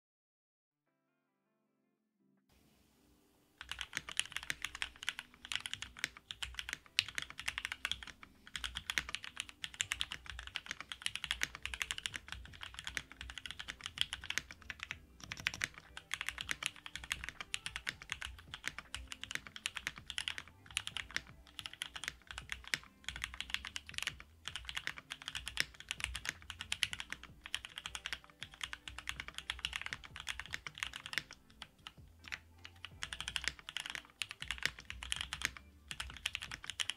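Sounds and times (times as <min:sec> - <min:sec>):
fast typing on mechanical keyboard: 0:03.6 - 0:36.9.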